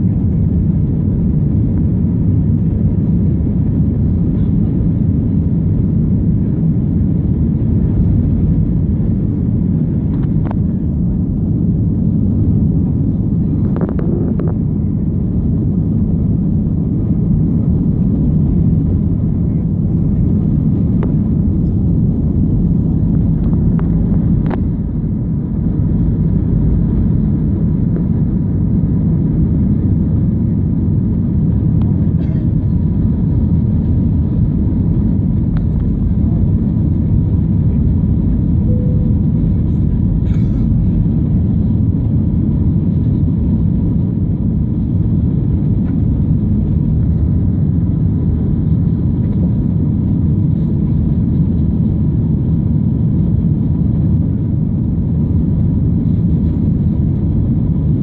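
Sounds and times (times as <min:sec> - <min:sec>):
jet engine cabin rumble: 0:00.0 - 0:58.0.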